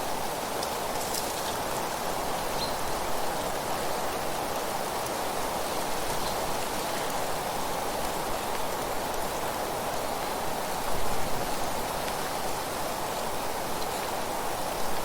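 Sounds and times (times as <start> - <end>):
wind rustling through trees: 0.0 - 15.0.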